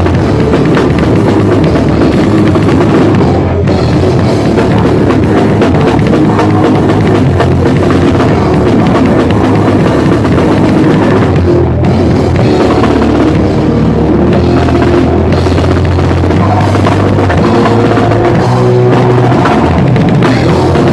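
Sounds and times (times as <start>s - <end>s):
loud band playing: 0.0s - 20.9s
pounding bass drum: 0.0s - 20.9s.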